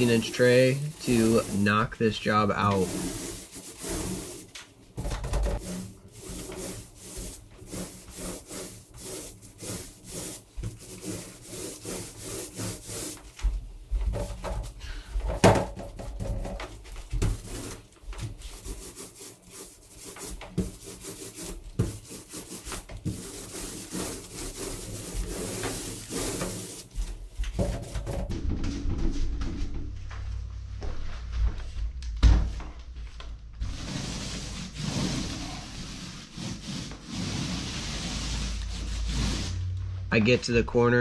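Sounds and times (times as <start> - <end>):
paint roller rubbing on wall: 0.0 - 15.2, 15.8 - 28.3, 33.6 - 39.8.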